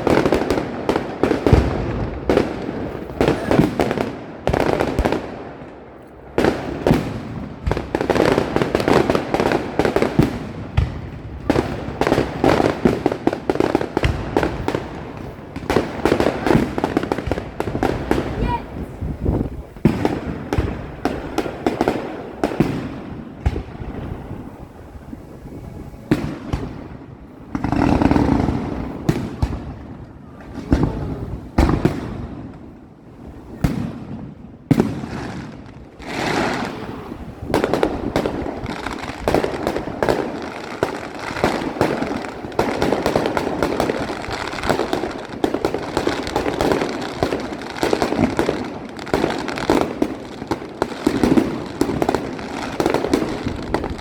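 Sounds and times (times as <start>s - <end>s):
firework crackle: 0.0s - 54.0s.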